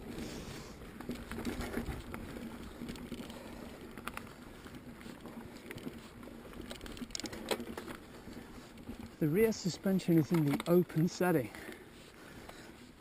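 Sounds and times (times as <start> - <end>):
bike clicks and rattles: 0.0 - 13.0
bike tyre rumble on dirt: 0.0 - 13.0.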